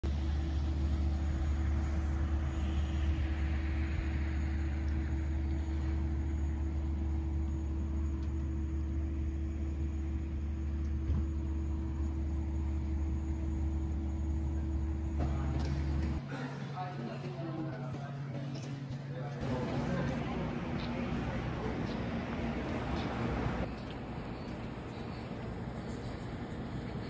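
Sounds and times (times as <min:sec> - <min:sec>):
low mechanical drone: 0:00.0 - 0:27.0
steady hum: 0:00.0 - 0:27.0.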